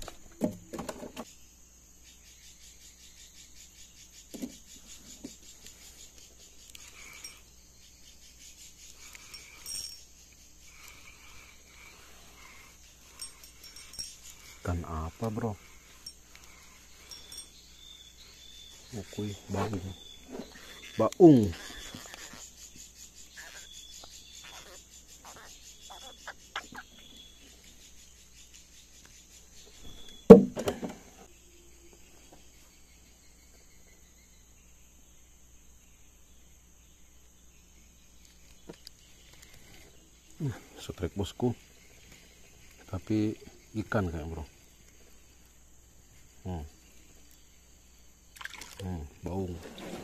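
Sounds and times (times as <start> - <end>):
insects chirping and trilling: 0.0 - 50.0.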